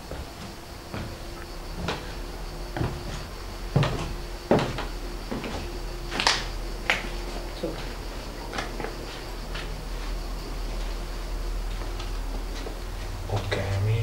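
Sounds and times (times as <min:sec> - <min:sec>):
footsteps on tiled floor: 0:00.0 - 0:14.0.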